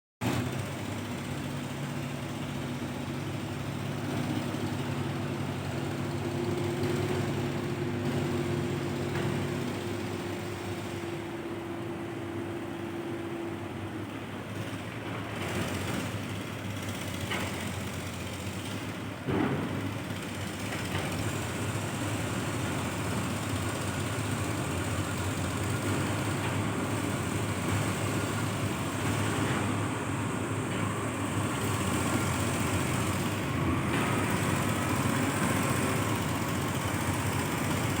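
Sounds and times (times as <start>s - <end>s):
dump truck mechanical noise: 0.2s - 38.0s.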